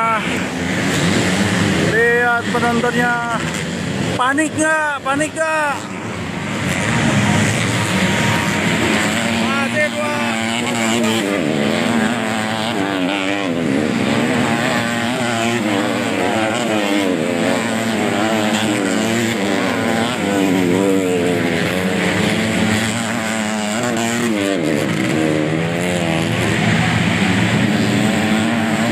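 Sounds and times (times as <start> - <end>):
motorcycle engines revving: 0.0 - 28.9.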